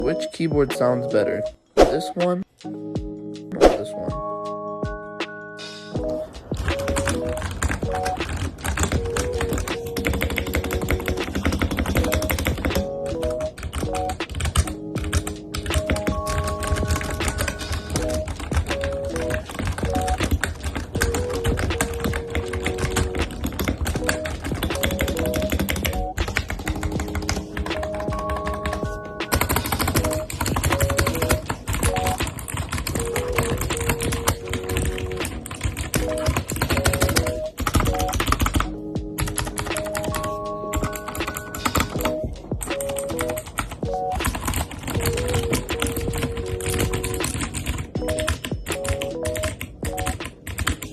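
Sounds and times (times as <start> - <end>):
music playing: 0.0 - 50.9
fast typing on keyboard: 6.0 - 50.9.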